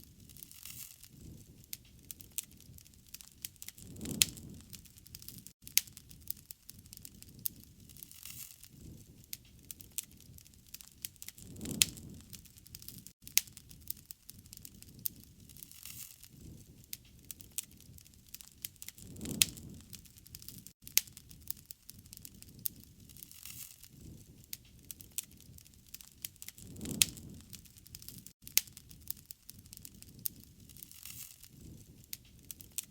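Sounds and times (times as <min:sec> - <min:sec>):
low rushing of flames: 0:00.0 - 0:32.9
wood crackling and popping: 0:00.0 - 0:32.9.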